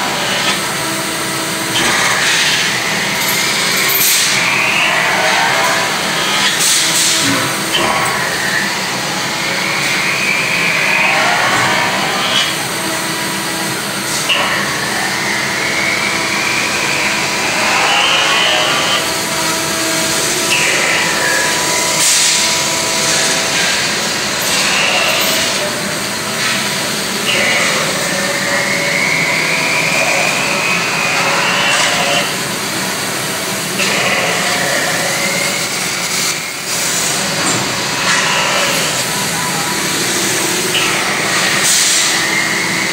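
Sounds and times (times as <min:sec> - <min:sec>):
machine noise: 0:00.0 - 0:42.9.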